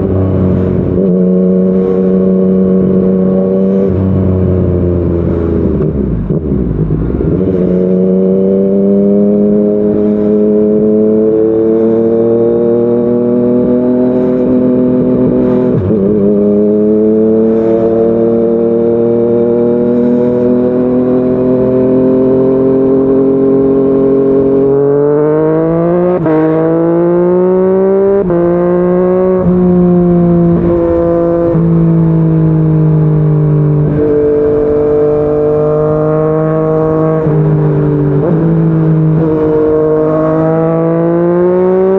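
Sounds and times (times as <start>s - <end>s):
motorcycle engine revving: 0.0s - 41.9s
quick gear upshifts: 0.0s - 41.9s.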